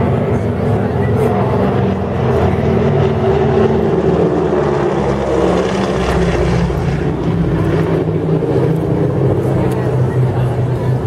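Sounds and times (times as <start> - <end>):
propeller planes flying past: 0.0 - 11.0
radial engines running loud: 0.0 - 11.0.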